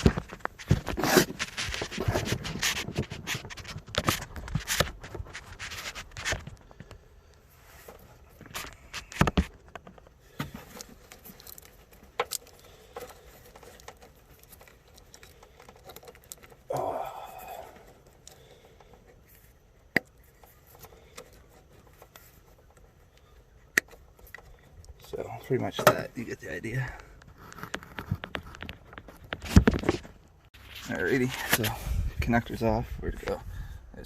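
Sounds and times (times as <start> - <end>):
wiring rustling: 0.0 - 33.3.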